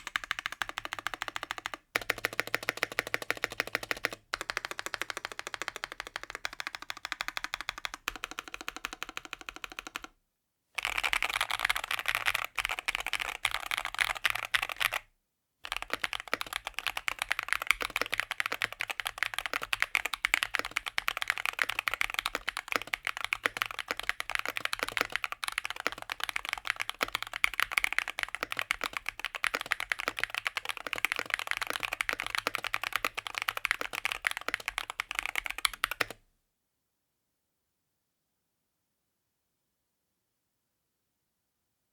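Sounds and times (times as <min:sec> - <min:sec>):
mechanical keyboard typing: 0:00.0 - 0:10.1, 0:10.8 - 0:15.0, 0:15.7 - 0:36.2.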